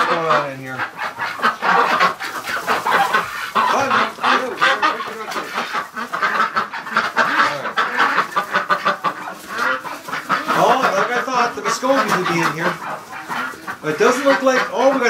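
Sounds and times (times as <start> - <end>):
ducks and geese calling: 0.0 - 15.0.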